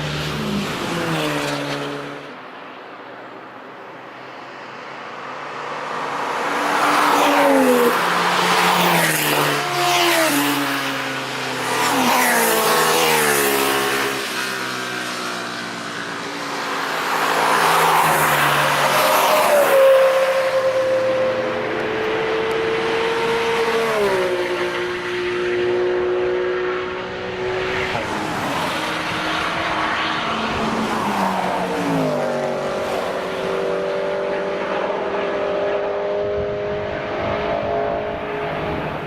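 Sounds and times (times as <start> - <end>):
race cars passing at speed: 0.0 - 39.0.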